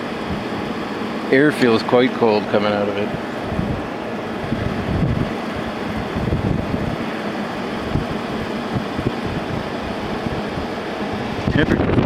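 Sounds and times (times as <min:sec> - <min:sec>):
air conditioner running: 0:00.0 - 0:12.0
wind buffeting microphone: 0:00.0 - 0:12.0.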